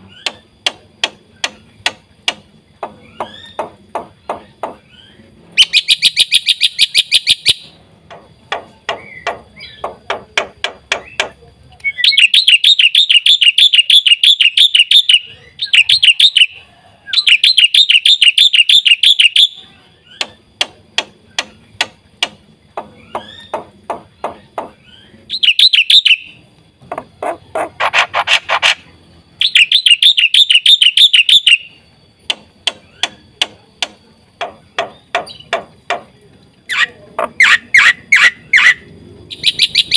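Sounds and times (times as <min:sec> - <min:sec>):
bird buzzy trills: 0:00.0 - 0:39.9.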